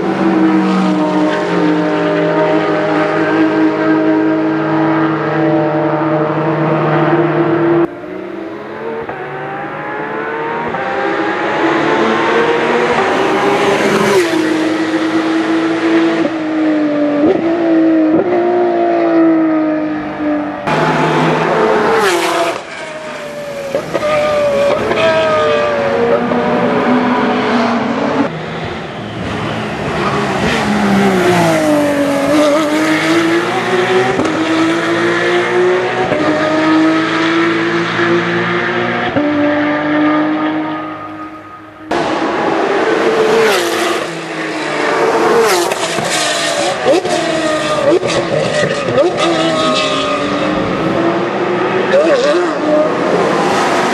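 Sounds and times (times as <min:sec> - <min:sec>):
race car engines at full throttle: 0:00.0 - 0:53.9.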